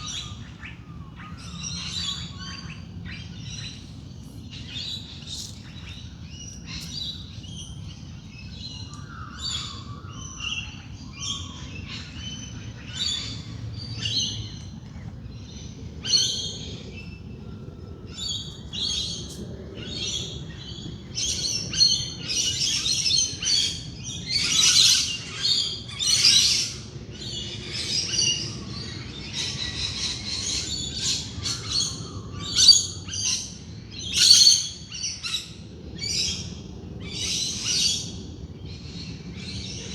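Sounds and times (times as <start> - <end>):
birds chirping and calling: 0.0 - 38.2.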